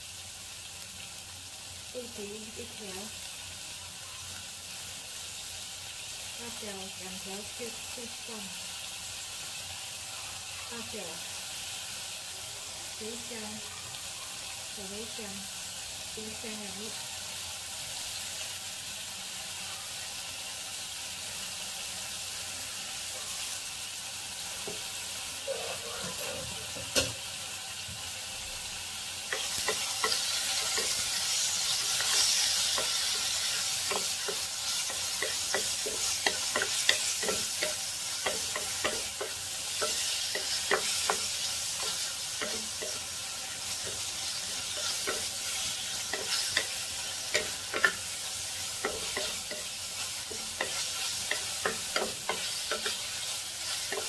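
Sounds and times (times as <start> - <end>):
spices sizzling in a pot: 0.0 - 54.0.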